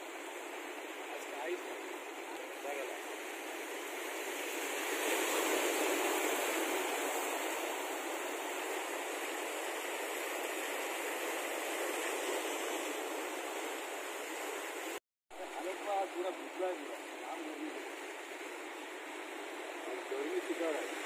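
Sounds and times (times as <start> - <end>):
sea surf waves: 0.0 - 21.0.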